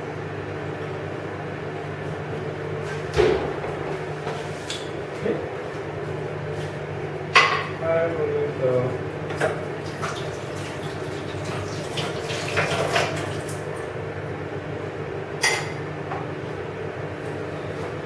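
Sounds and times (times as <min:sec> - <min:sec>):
microwave oven humming: 0:00.0 - 0:18.0.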